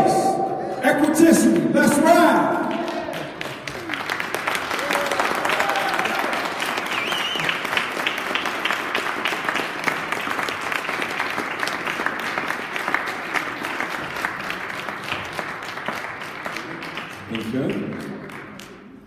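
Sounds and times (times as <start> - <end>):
audience applauding: 0.6 - 19.0.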